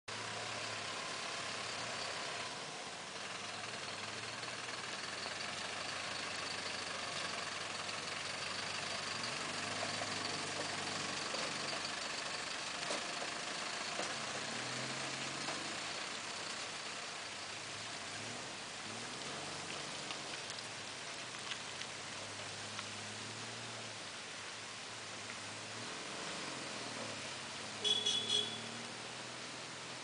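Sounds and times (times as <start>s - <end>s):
diesel truck engine at low revs: 0.1s - 30.0s.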